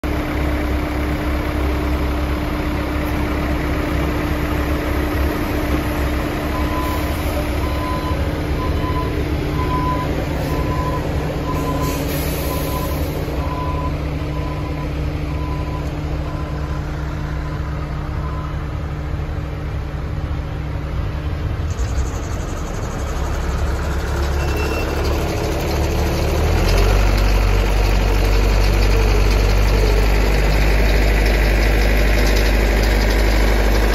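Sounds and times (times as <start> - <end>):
engine running: 0.0 - 33.9
conveyor carrying dirt: 0.1 - 33.9.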